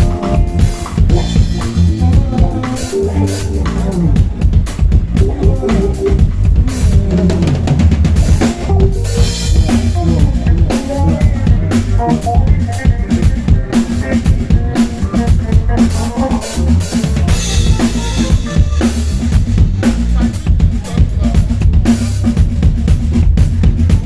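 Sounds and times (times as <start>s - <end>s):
fast busy drumming: 0.0s - 24.0s
heavy bass guitar line: 0.0s - 24.0s.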